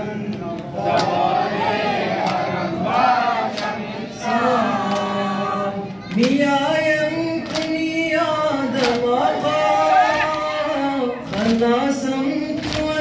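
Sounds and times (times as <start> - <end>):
men singing a lament: 0.0 - 13.0.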